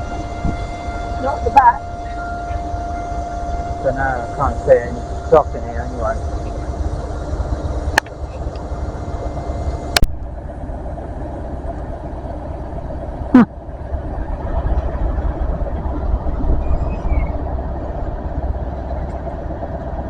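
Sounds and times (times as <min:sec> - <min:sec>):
diesel train engine idling: 0:00.0 - 0:20.0.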